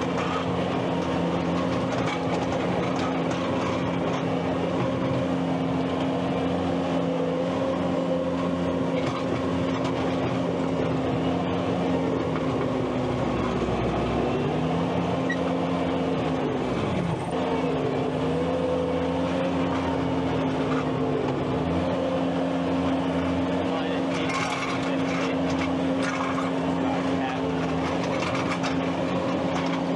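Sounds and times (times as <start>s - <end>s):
skid steer engine running: 0.0s - 29.9s.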